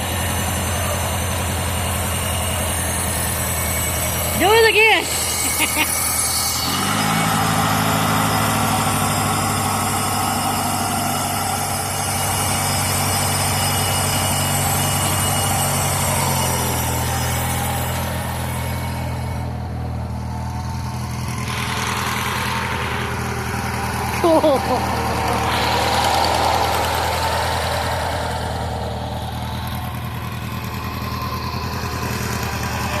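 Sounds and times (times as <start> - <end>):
lawn mower engine idling: 0.0 - 33.0.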